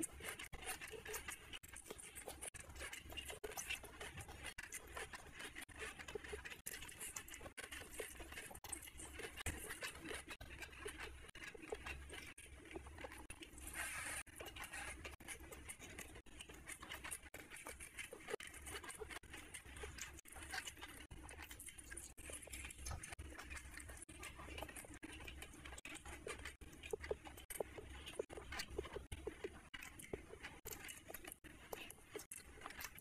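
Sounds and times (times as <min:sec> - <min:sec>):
wet chewing and lip-smacking: 0:00.0 - 0:33.0.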